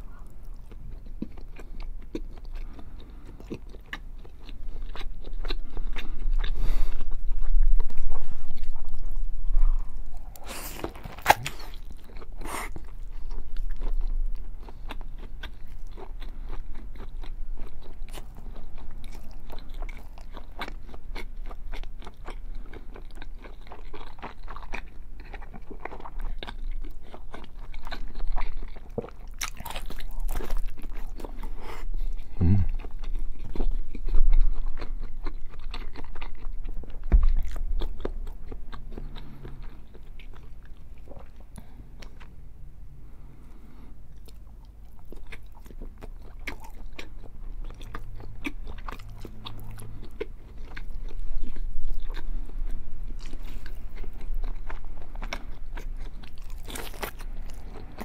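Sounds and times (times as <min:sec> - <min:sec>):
chewing and biting bacon: 0:00.0 - 0:42.4, 0:44.1 - 0:58.0.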